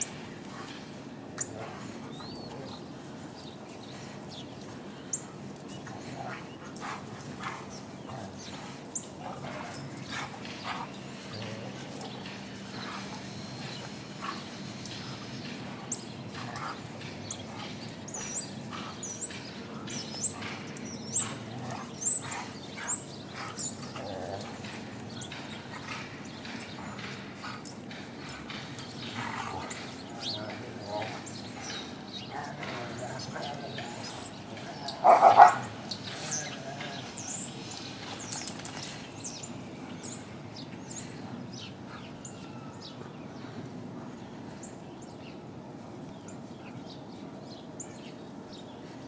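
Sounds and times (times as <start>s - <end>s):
dogs scuffling: 0.0s - 39.9s.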